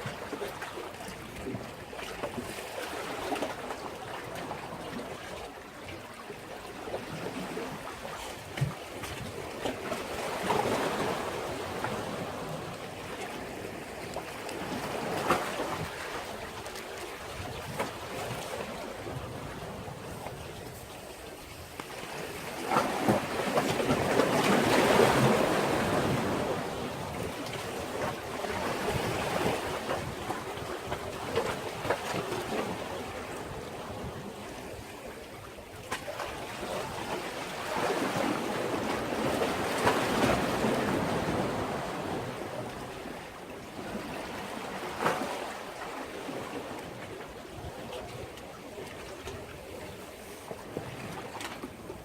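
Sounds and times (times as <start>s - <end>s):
sea waves breaking: 0.0s - 52.0s.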